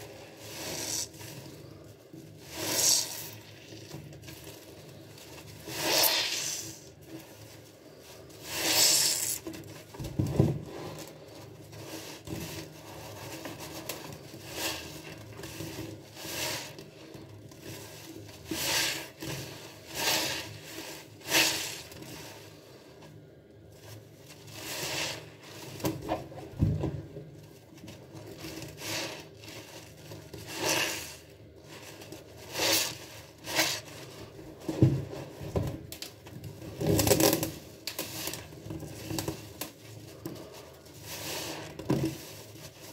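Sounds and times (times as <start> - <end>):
wet sponge squishing: 0.0 - 23.1, 27.8 - 35.4, 36.6 - 42.9.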